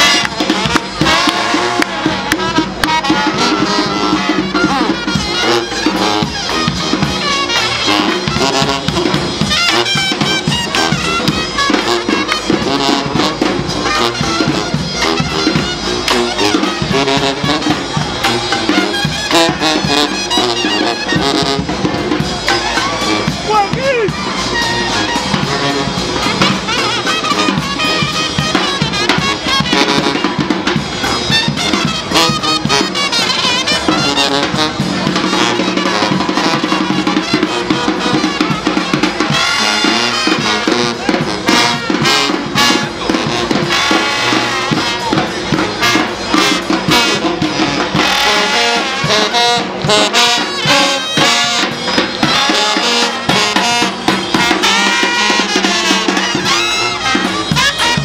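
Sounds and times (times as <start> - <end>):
brass band playing: 0.0 - 58.0
marching drums: 0.0 - 58.0.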